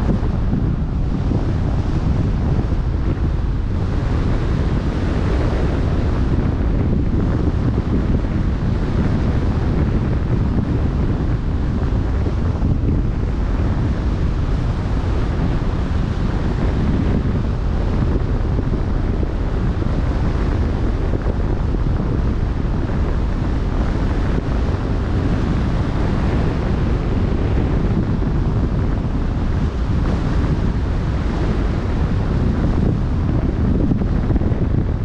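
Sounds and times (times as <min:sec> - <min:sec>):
wind blowing across microphone: 0:00.0 - 0:35.0.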